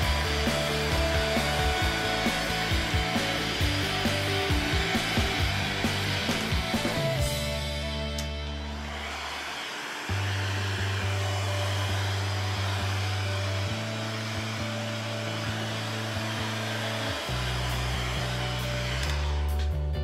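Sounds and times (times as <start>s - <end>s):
heat gun blowing hot air: 0.0s - 7.4s, 8.1s - 20.0s
background music with bass line: 0.0s - 8.8s, 10.8s - 20.0s.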